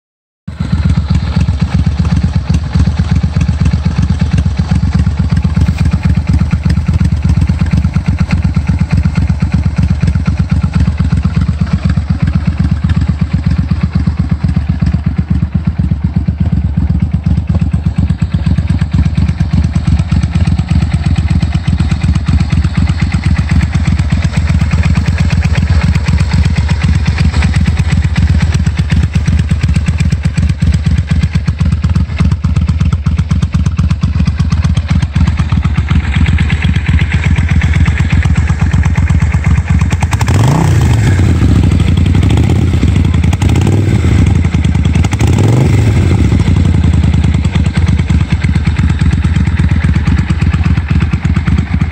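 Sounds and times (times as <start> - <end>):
motorcycle engine idling: 0.5 - 51.9.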